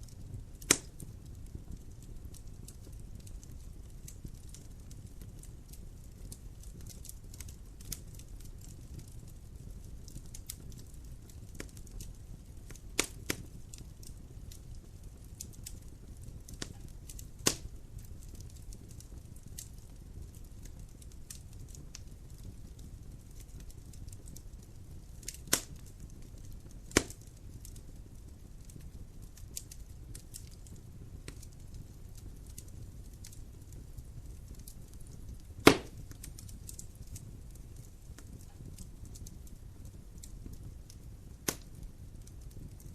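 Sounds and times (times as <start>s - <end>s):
sharp fire pops: 0.0s - 14.2s, 15.2s - 24.4s, 25.2s - 27.8s, 28.4s - 42.9s
wood fire crackling: 0.0s - 42.9s.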